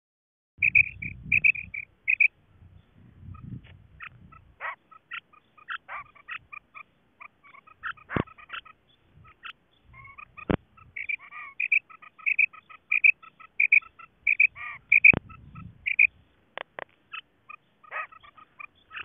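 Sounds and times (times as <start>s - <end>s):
quail calling: 0.6s - 2.4s, 3.2s - 19.0s.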